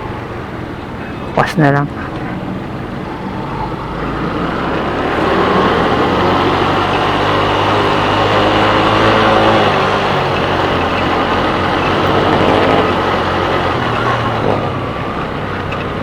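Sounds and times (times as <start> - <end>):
road and traffic noise: 0.0 - 16.0
vehicle engine running: 0.0 - 16.0.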